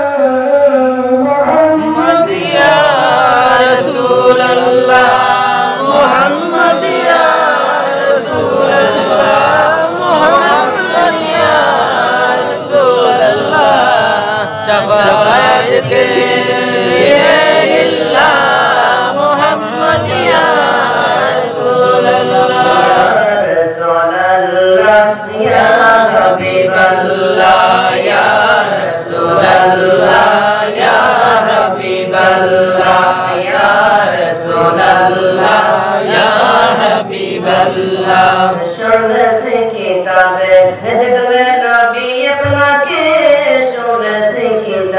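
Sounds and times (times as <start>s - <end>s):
men chanting unaccompanied: 0.0s - 44.9s.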